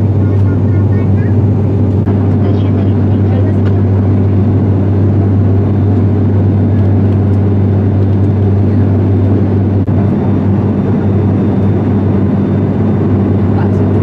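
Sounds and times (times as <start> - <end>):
turboprop engines droning in flight: 0.0 - 14.0.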